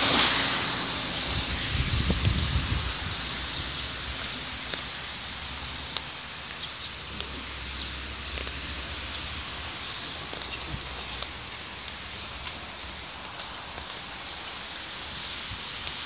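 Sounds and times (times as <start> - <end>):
steady rain hiss: 0.0 - 16.0
vehicle passing on wet road: 0.0 - 16.0.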